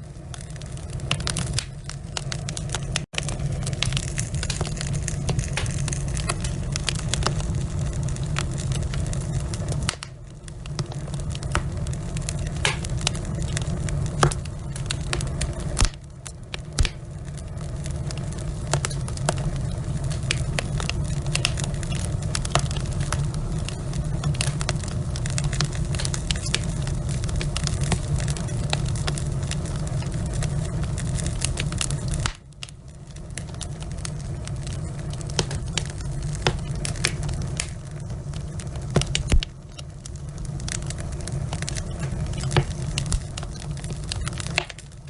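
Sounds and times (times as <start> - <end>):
low rumble: 0.0 - 45.0
wood fire crackling and popping: 0.0 - 45.0.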